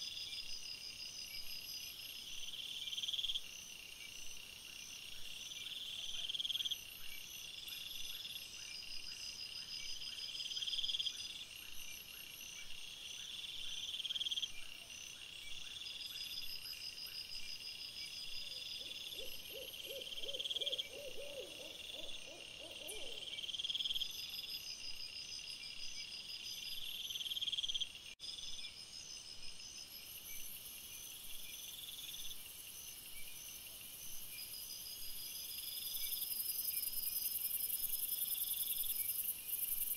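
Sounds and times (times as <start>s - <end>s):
night insects trilling: 0.0s - 39.9s
rapid low insect pulses: 0.0s - 39.9s.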